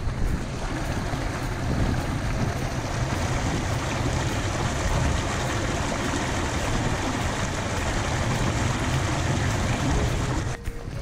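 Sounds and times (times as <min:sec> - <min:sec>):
seawater surging through rock channel: 0:00.0 - 0:11.0.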